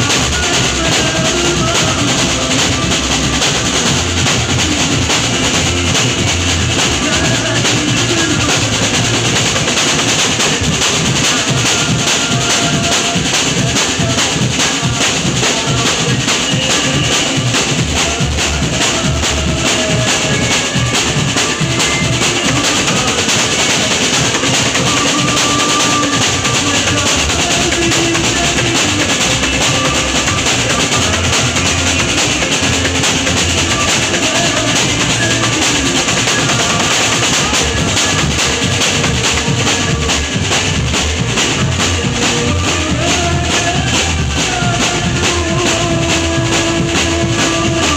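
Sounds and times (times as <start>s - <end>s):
drum and percussion beat: 0.0s - 47.9s
instrumental band music: 0.0s - 47.9s.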